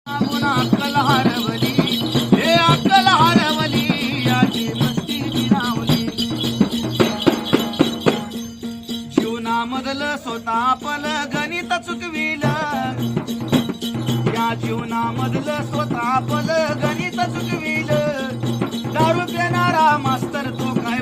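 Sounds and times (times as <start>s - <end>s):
jingling percussion: 0.1s - 21.0s.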